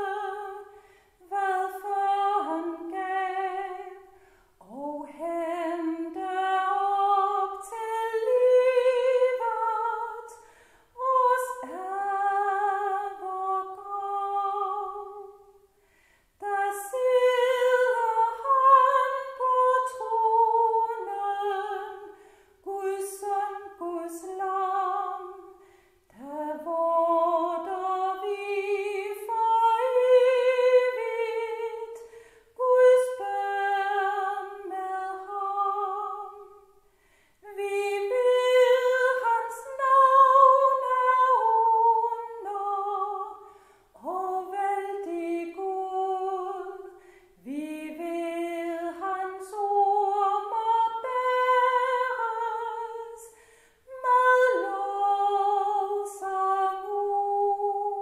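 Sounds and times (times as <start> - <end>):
woman singing a hymn unaccompanied: 0.0 - 15.7, 16.4 - 58.0.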